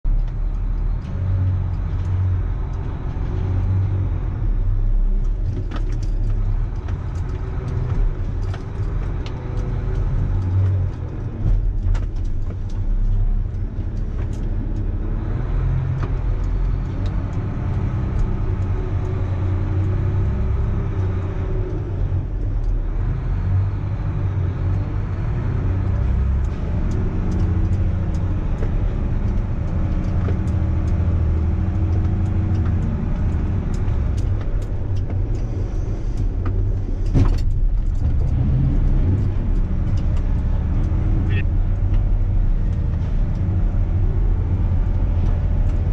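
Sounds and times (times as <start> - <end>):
diesel engine running: 0.1 - 45.9
light clicks and rattles: 5.2 - 22.9, 24.5 - 43.7.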